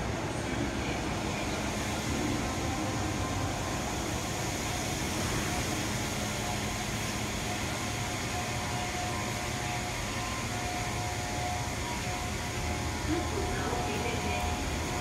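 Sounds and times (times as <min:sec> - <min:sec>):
train pulling into station: 0:00.0 - 0:15.0
faint steady tone: 0:00.6 - 0:15.0.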